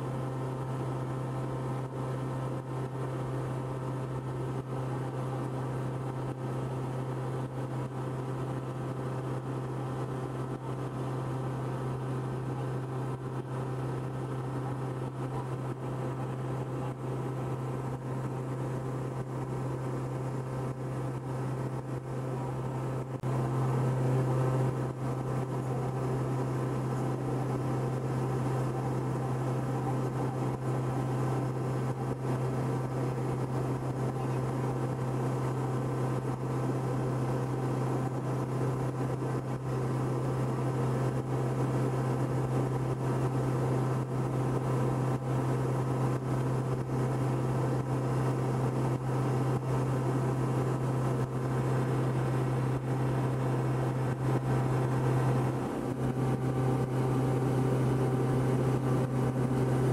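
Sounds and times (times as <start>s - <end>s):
small plane engine drone: 0.0s - 59.9s.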